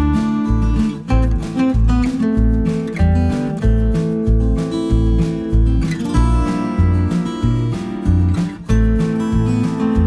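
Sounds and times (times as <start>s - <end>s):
strummed acoustic guitar music: 0.0s - 10.0s.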